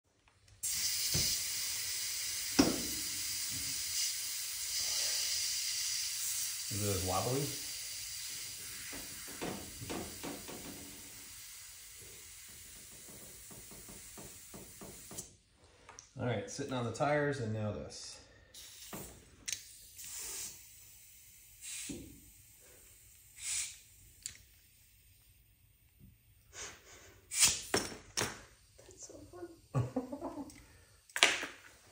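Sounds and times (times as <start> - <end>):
compressed air hissing: 0.6 - 15.4, 18.3 - 31.2.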